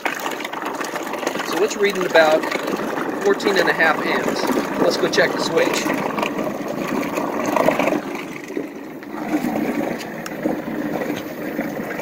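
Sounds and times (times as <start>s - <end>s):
propeller churning water: 0.0s - 12.0s.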